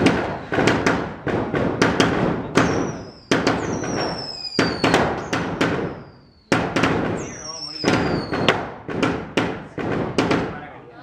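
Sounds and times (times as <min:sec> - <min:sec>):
fireworks whistling: 0:00.0 - 0:10.3
firework bangs: 0:00.0 - 0:10.8.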